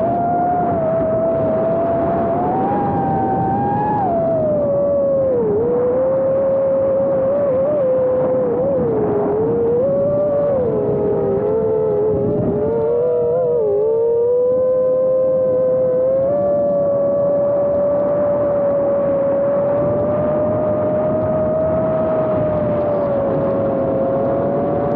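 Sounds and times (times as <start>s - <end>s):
drone propellers whining: 0.0s - 24.9s.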